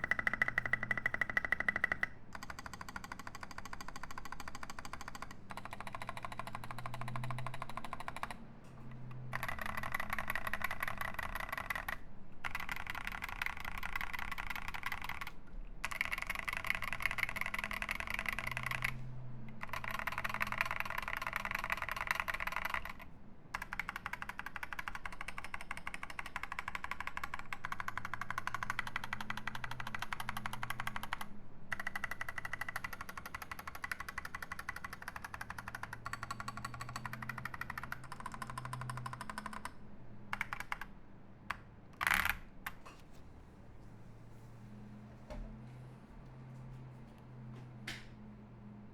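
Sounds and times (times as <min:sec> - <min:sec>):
fast typing on mechanical keyboard: 0:00.0 - 0:42.8.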